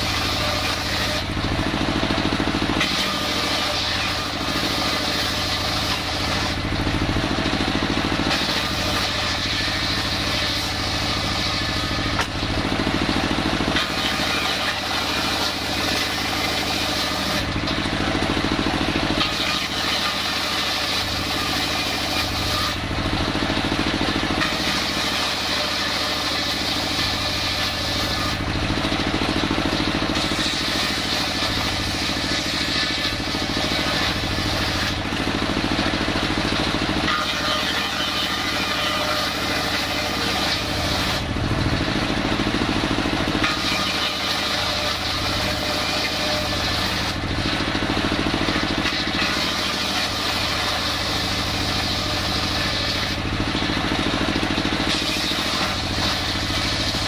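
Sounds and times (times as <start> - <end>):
circular saw ripping wooden planks: 0.0 - 57.0
engine running steadily: 0.0 - 57.0.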